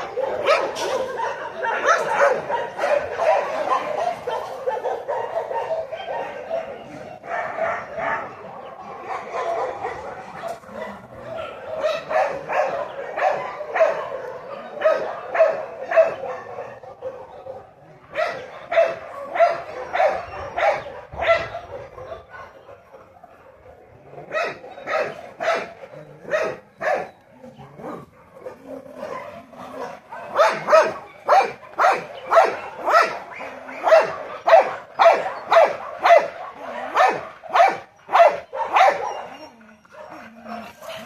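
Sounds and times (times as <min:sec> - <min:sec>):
dog barking: 0:00.0 - 0:23.2, 0:24.2 - 0:27.2, 0:27.9 - 0:41.0.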